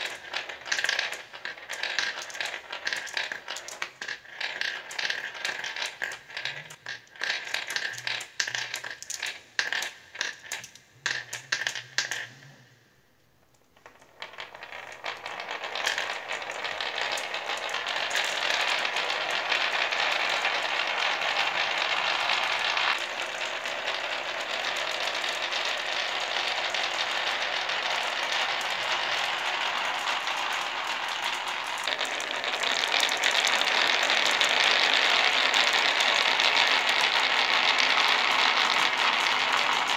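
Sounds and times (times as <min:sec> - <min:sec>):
marbles clicking together: 0:00.0 - 0:12.6, 0:13.5 - 0:39.9
marbles rattling down wooden groove: 0:00.0 - 0:12.6, 0:13.8 - 0:39.9.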